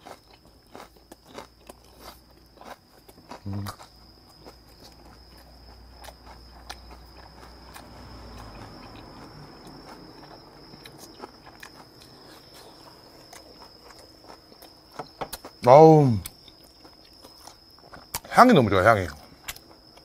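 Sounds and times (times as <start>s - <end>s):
person chewing with mouth closed: 0.0s - 15.6s, 16.2s - 18.3s.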